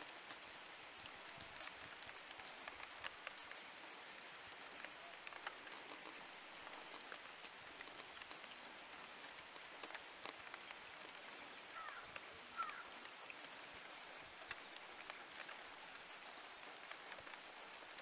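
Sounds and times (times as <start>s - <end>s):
light ticks: 0.0s - 18.0s
soft forest hiss: 0.0s - 18.0s.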